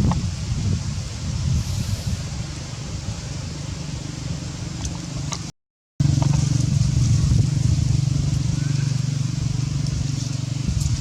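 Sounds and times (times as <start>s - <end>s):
low motor rumble: 0.0s - 11.0s.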